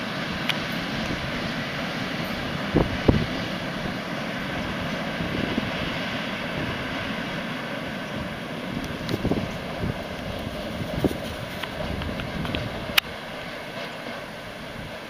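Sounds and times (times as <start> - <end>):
diesel locomotive engine droning: 0.0 - 15.0
wagons rumbling on rails: 0.0 - 15.0.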